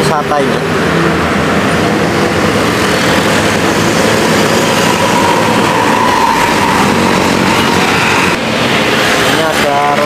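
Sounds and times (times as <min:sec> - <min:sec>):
bus diesel engine driving past: 0:00.0 - 0:10.0
steady road traffic: 0:00.0 - 0:10.0
steady whine: 0:00.0 - 0:10.0.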